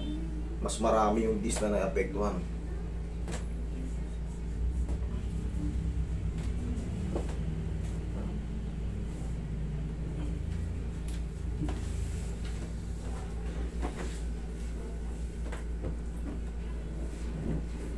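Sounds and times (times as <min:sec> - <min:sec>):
air conditioner hum: 0:00.0 - 0:17.9.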